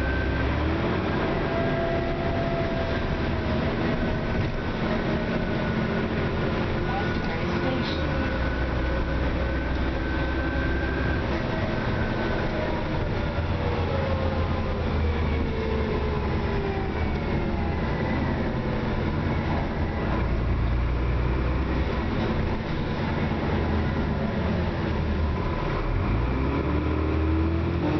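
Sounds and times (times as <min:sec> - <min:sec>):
bus diesel engine drone: 0:00.0 - 0:27.9.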